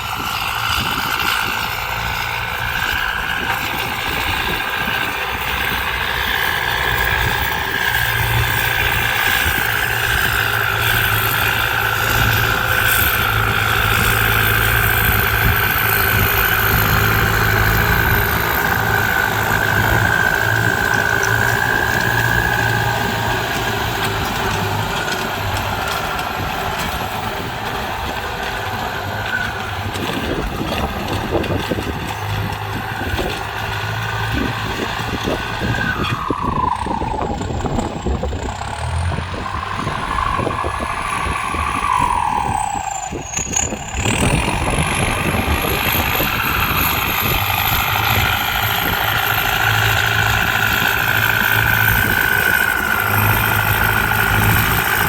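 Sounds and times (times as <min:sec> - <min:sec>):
tractor engine whining under load: 0:00.0 - 0:55.0.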